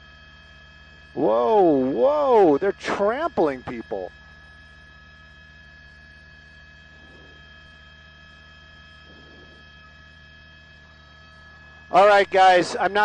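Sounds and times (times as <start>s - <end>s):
electrical hum: 0.0s - 13.0s
thin high steady tones: 0.2s - 13.0s.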